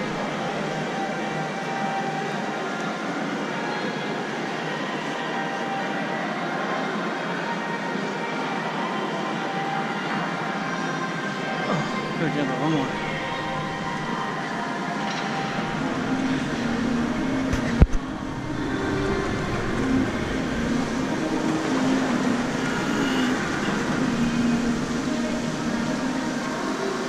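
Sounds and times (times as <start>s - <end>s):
shopping arcade hubbub: 0.0s - 27.0s.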